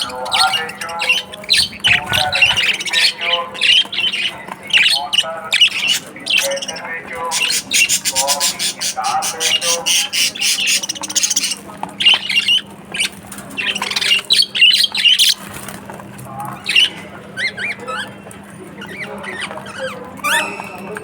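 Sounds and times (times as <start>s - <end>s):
budgerigars chattering and squawking: 0.0s - 15.7s, 16.4s - 21.0s.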